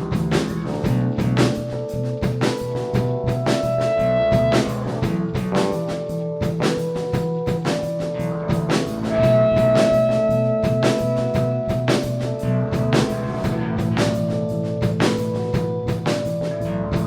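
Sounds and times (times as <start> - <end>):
guitar: 0.0 - 6.5, 8.2 - 17.0
drum kit beat: 0.0 - 17.0.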